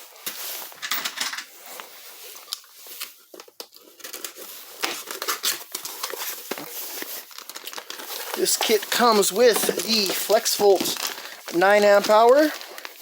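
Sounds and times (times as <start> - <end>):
cardboard packaging rustling: 0.0 - 0.8, 1.5 - 13.0.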